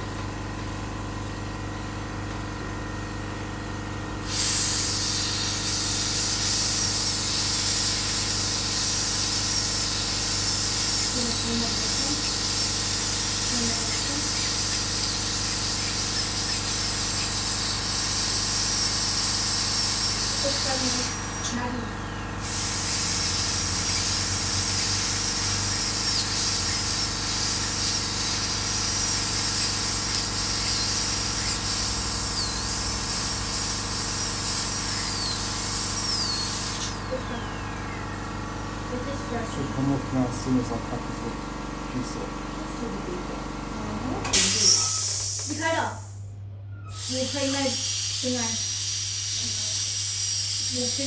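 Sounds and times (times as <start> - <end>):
dental drill hissing: 4.2 - 41.4, 44.0 - 46.3, 46.9 - 51.0.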